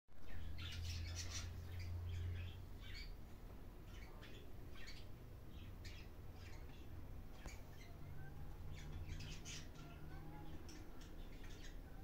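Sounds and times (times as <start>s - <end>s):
low steady hum: 0.1s - 12.0s
small birds chirping: 0.1s - 12.0s.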